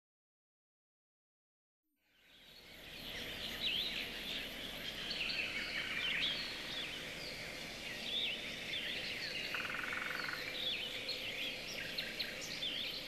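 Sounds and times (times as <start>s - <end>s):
outdoor ambience: 2.0s - 13.0s
small birds chirping: 2.1s - 13.0s.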